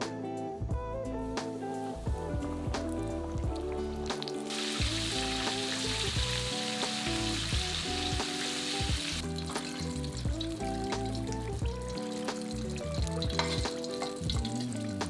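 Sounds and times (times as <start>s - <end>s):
chicken deep-frying in oil: 2.0s - 15.0s.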